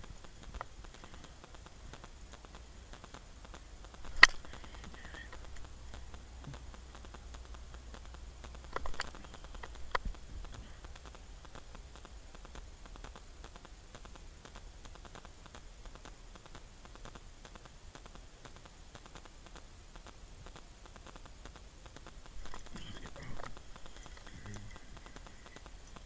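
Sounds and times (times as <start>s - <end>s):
light ticks and crackles: 0.0s - 26.0s.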